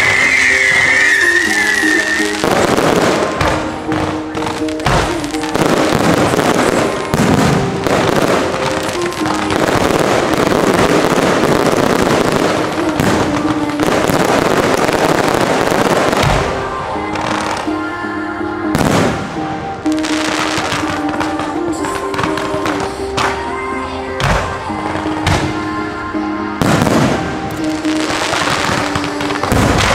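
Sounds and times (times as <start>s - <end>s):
fireworks bursts: 0.0s - 29.9s
music playing: 0.0s - 29.9s.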